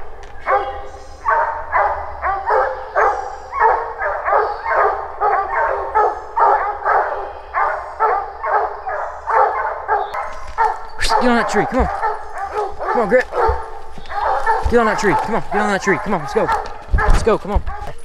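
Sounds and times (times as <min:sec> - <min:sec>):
hounds barking: 0:00.0 - 0:18.0.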